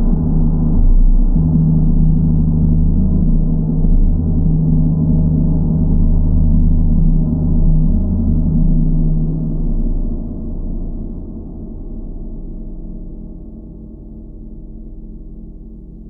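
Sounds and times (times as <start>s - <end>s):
large gong drone: 0.0s - 16.0s.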